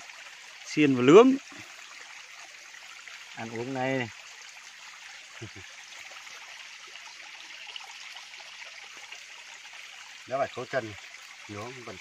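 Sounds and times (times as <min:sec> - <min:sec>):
stream trickling: 0:00.0 - 0:12.0.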